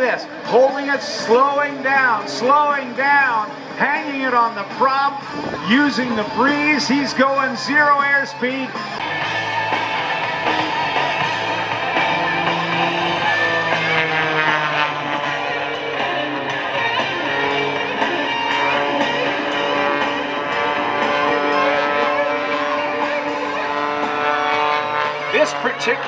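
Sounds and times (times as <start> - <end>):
rock music with guitar: 0.0 - 26.0.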